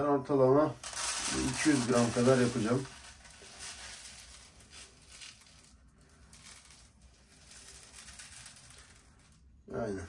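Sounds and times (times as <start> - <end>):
rice grains trickling into container: 0.8 - 9.6.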